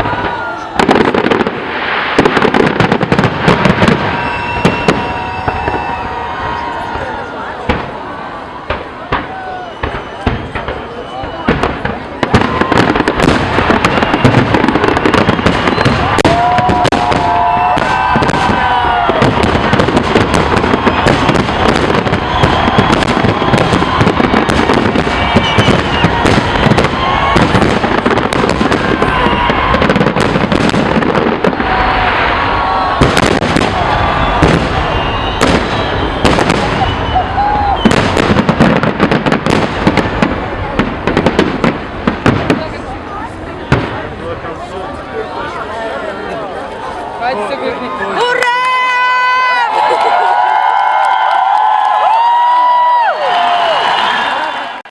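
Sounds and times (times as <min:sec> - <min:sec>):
fireworks bangs and crackling: 0:00.0 - 0:54.7.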